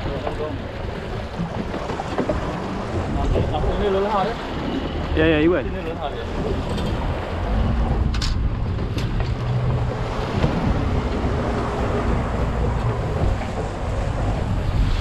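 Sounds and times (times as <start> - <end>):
sea washing against boat: 0.0 - 15.0
wind buffeting microphone: 0.0 - 15.0.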